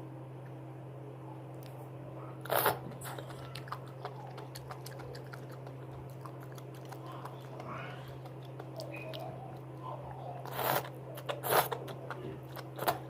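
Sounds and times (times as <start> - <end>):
chewing with crackly clicks: 2.4 - 13.0.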